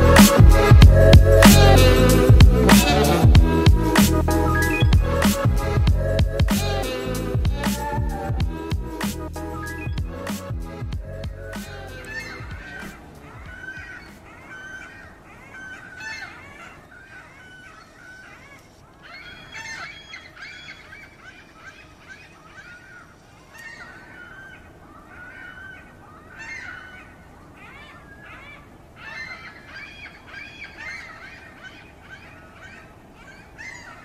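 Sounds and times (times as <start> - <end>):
birds calling: 0.0 - 34.0.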